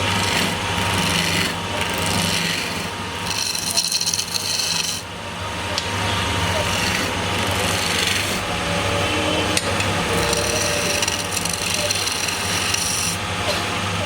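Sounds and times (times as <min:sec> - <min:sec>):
tool scraping spinning wood: 0:00.0 - 0:05.2, 0:05.8 - 0:14.0
lathe motor hum: 0:00.0 - 0:14.0.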